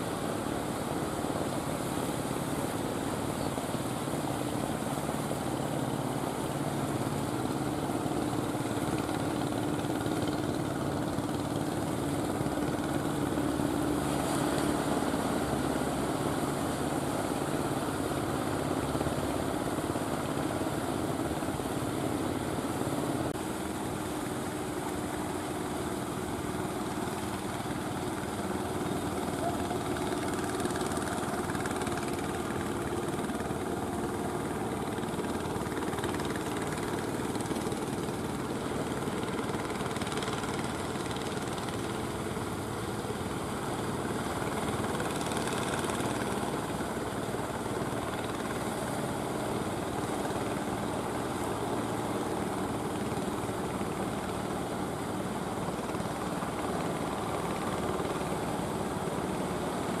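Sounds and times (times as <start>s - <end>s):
boat engine droning: 0.0s - 60.0s.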